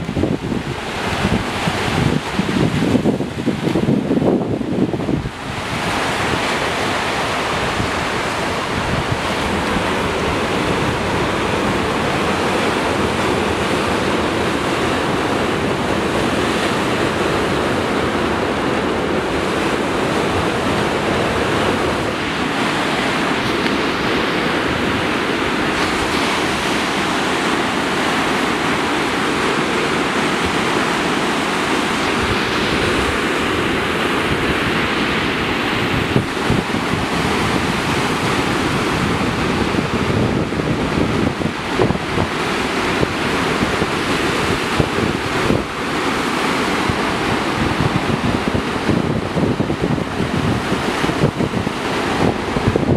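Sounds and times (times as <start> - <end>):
surf breaking on rocks: 0.0 - 52.9
wind on microphone: 0.0 - 52.9.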